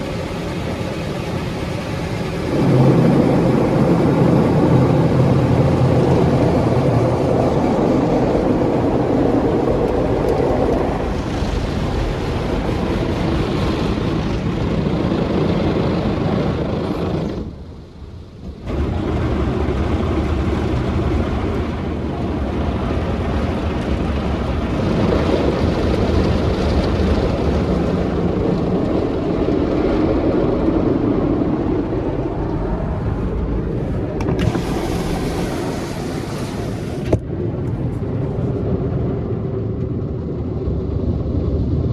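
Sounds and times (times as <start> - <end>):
car wash machine rushing and whirring: 0.0 - 41.9.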